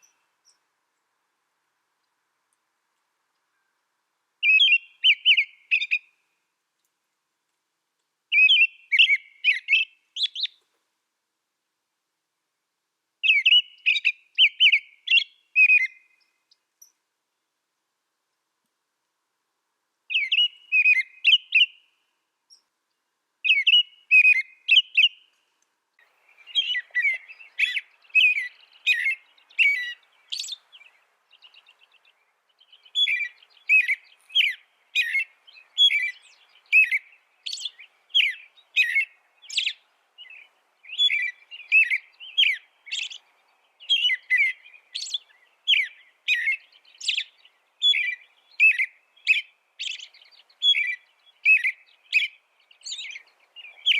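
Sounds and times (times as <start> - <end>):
songbird singing: 0.0 - 7.2, 7.9 - 10.8, 13.2 - 18.8, 19.8 - 53.9.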